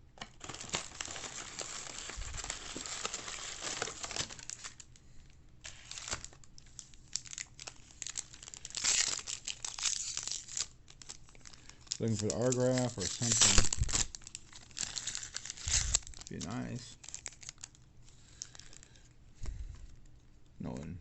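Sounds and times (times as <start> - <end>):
plastic wrapper crinkling and tearing: 0.2 - 5.0, 5.6 - 19.1.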